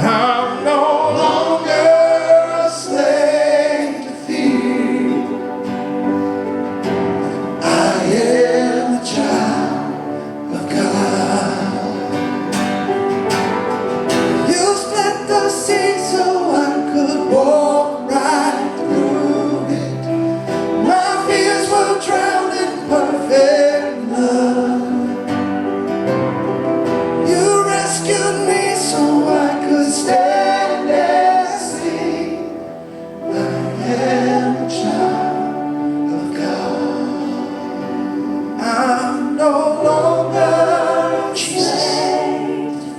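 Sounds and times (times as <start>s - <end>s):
voices singing gospel: 0.0s - 13.1s, 14.2s - 25.7s, 27.2s - 42.9s
sustained instrumental accompaniment: 0.0s - 42.9s.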